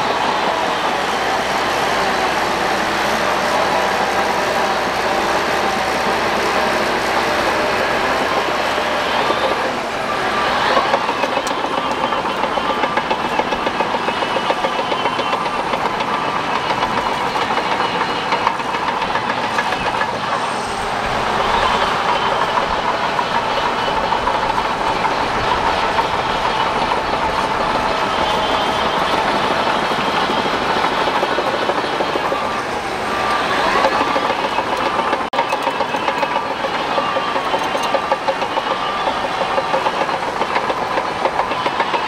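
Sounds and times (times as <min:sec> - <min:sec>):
diesel engine running: 0:00.0 - 0:42.0
steel tracks clattering: 0:00.0 - 0:42.0.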